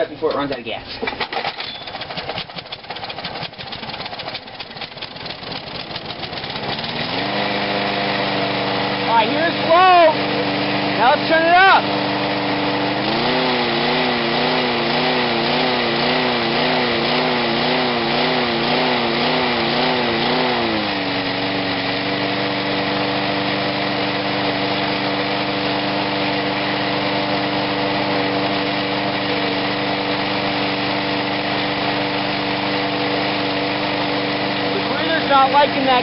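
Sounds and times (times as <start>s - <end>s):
lawnmower engine surging: 0.0s - 36.0s.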